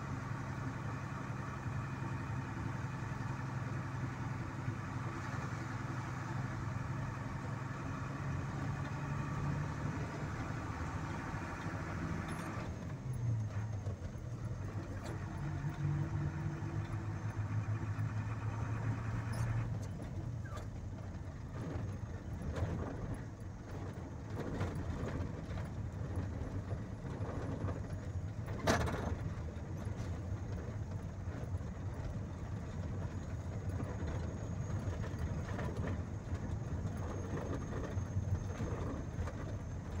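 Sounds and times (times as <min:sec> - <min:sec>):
vehicle engine hum: 0:00.0 - 0:40.0.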